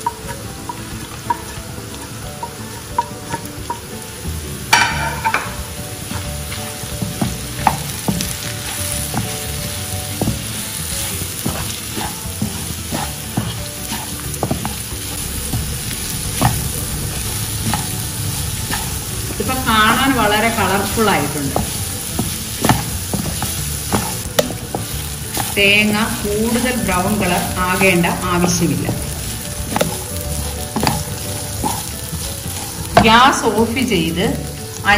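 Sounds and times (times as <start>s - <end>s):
wooden spatula scraping pan: 0.0s - 34.6s
vegetables sizzling in oil: 0.0s - 34.9s.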